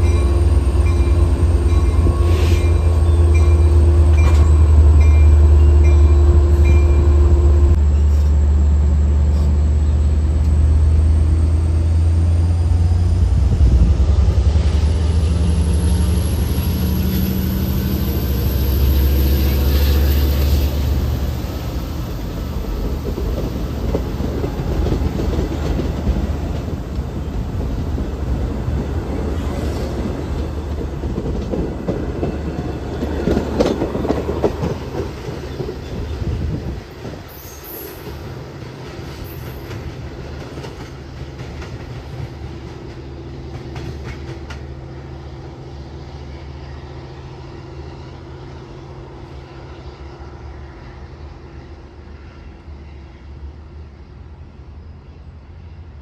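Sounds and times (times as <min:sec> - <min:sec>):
train coaches rolling past: 0:00.0 - 0:56.0.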